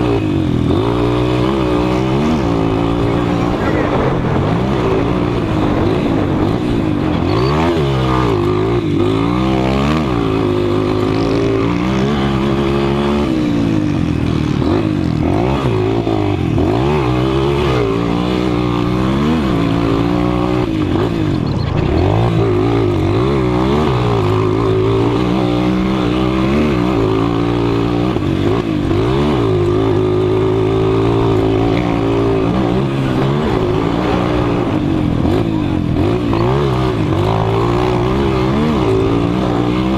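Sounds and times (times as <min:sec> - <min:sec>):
motocross motorcycles racing: 0:00.0 - 0:39.9.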